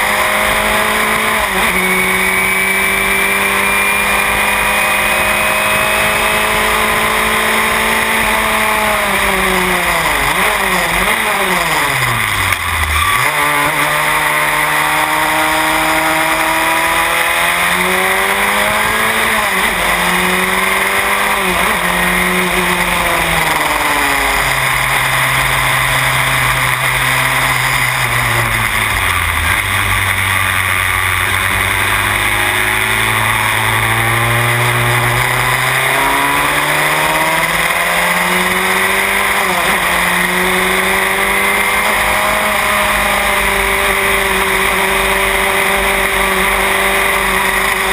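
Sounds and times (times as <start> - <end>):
racing car engine: 0.0 - 47.9.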